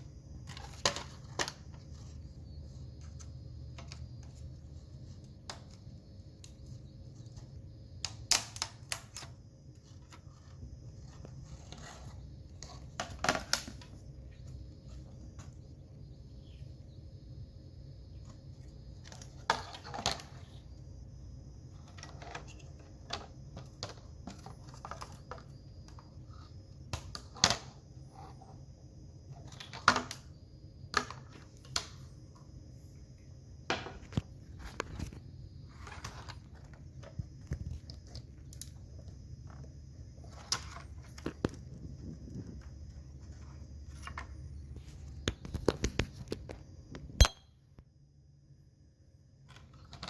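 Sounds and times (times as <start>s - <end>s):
faint high whine: 0.0s - 50.0s
steady low hum: 0.0s - 50.0s.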